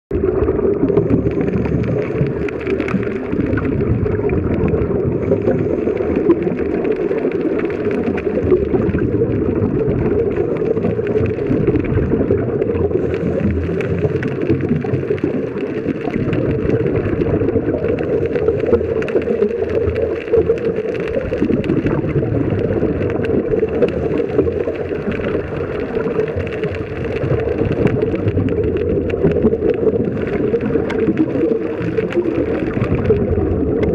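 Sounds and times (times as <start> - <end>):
muffled underwater rushing: 0.1 - 33.9.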